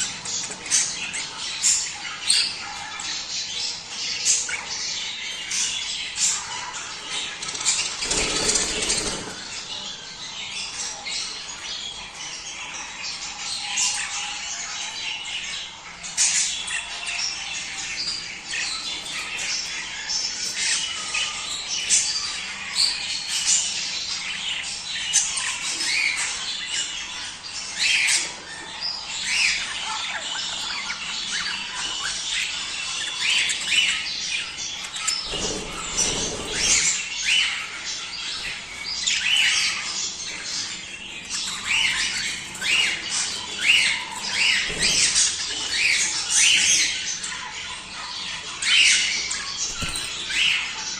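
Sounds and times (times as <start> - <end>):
budgerigars chattering and warbling: 0.0 - 50.9.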